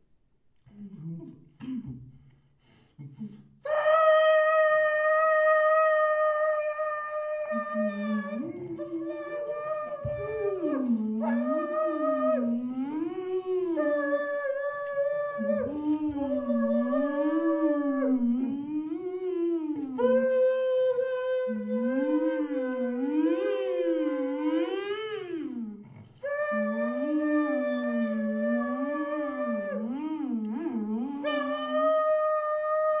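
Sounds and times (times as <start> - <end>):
voice holding high note: 3.7 - 33.0.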